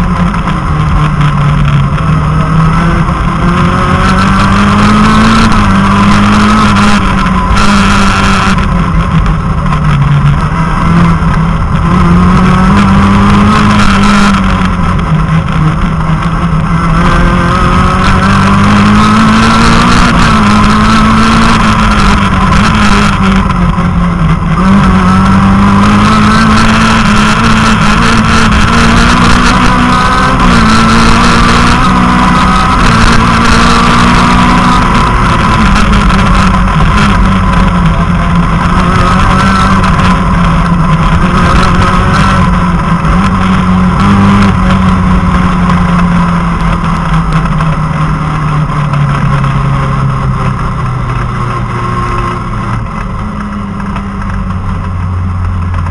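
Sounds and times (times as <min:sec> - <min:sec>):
car engine running hard: 0:00.0 - 0:55.9.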